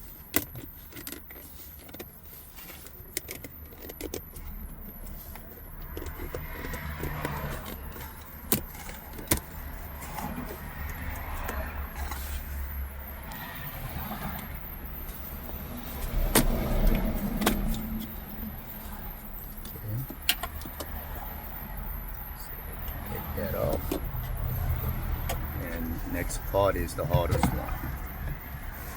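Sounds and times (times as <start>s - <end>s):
rustling and handling noise: 0.0s - 28.9s.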